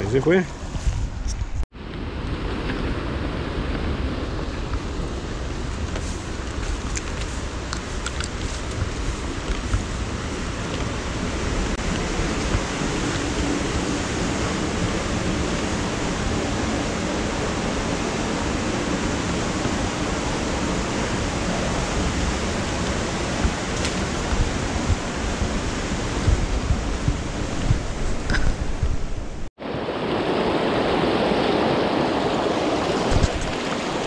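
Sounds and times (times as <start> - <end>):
river rushing: 1.8 - 34.0.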